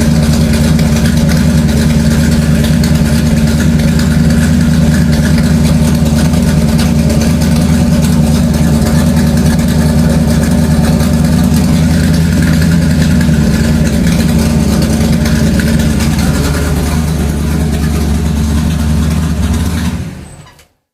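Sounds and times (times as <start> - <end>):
motor engine running: 0.0 - 20.6.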